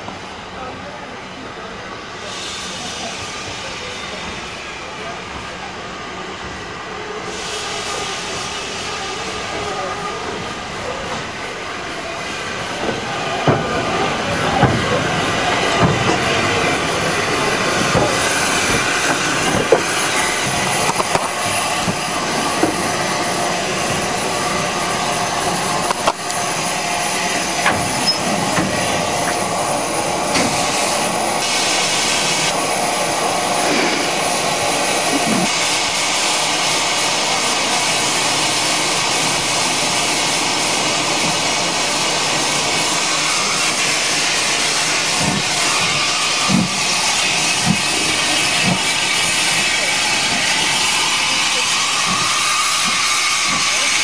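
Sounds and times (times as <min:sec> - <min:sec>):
steam hissing: 0:01.8 - 0:54.0.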